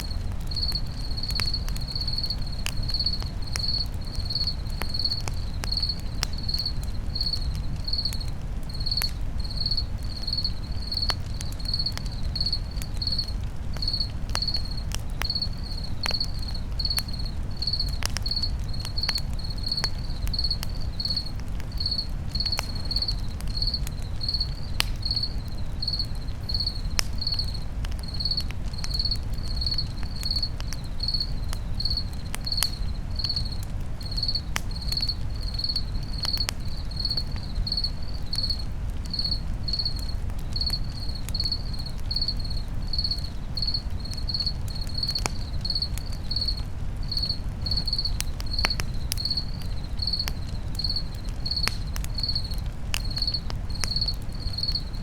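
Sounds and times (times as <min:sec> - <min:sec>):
campfire crackling and popping: 0:00.0 - 0:55.0
cricket chirping: 0:00.0 - 0:55.0.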